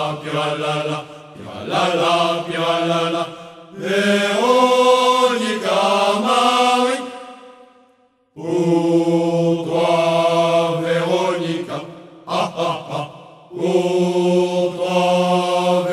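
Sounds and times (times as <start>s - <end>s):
voices singing a slow chant: 0.0s - 15.9s.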